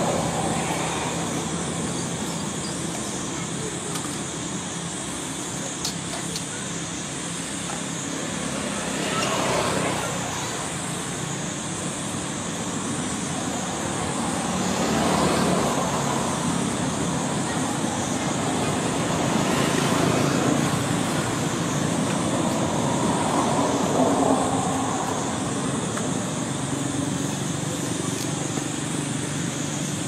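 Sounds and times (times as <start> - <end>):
steady rushing outdoor noise: 0.0 - 30.0.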